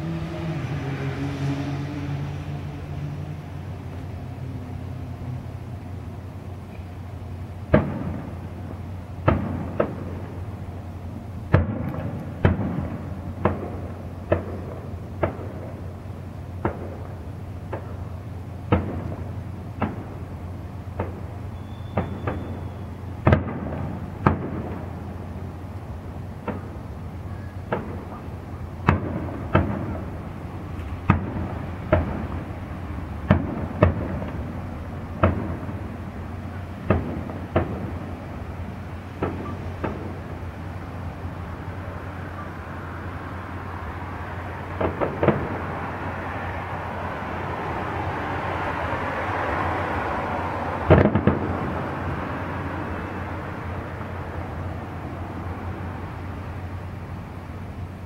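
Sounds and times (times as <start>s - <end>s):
broad rushing noise: 0.0s - 58.0s
distant fireworks bursting: 2.3s - 58.0s.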